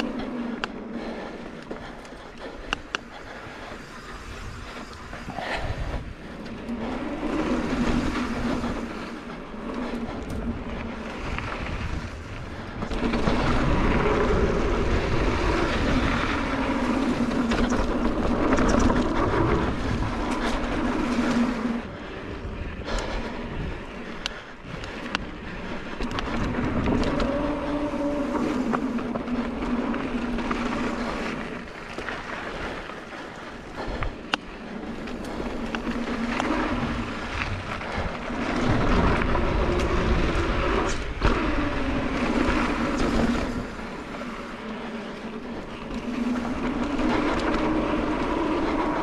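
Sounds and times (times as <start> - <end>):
bike chain and frame rattle: 0.0 - 49.0
bike tyres on dirt and rock: 0.0 - 49.0
wind on camera: 0.0 - 49.0.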